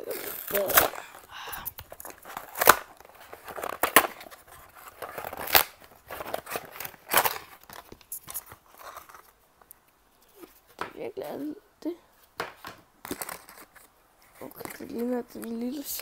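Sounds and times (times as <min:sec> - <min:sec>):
packaging rustling and crackling: 0:00.0 - 0:09.4, 0:12.5 - 0:16.0.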